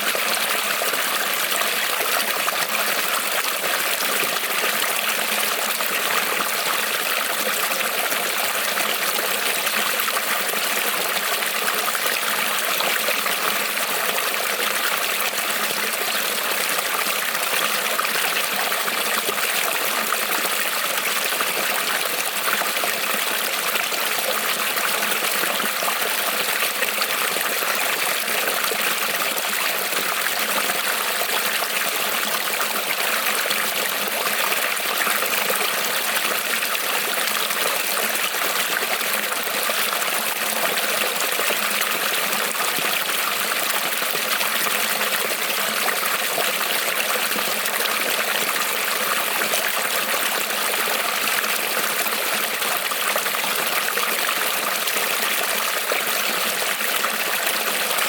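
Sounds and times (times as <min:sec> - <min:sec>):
creek water trickling over stones: 0:00.0 - 0:58.0.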